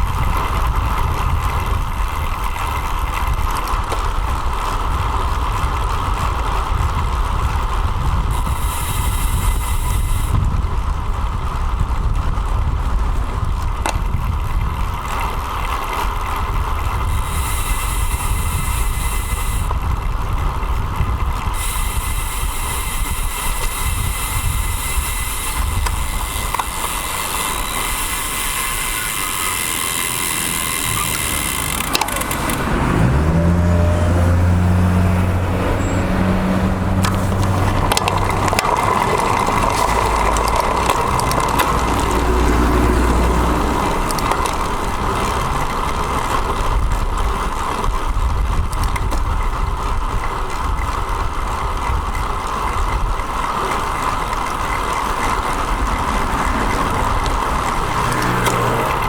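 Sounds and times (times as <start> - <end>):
motor vehicle engine hum: 0.0 - 59.0
wind and road noise: 0.0 - 59.0.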